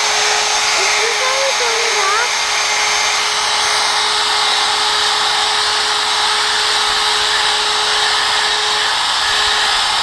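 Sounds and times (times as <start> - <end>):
electric drill whining: 0.0 - 10.0.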